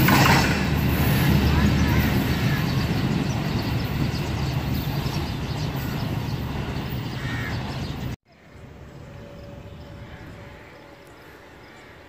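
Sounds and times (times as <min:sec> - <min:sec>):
diesel train rumbling on track: 0:00.0 - 0:12.0.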